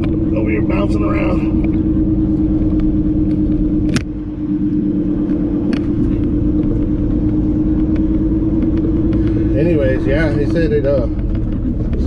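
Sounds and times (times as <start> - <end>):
road rumble: 0.0 - 12.0
truck engine drone: 0.0 - 12.0.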